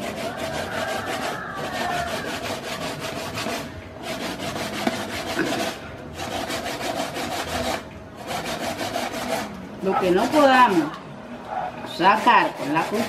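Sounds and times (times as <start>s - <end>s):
utensil scraping raw fish: 0.0s - 10.9s, 11.9s - 13.0s.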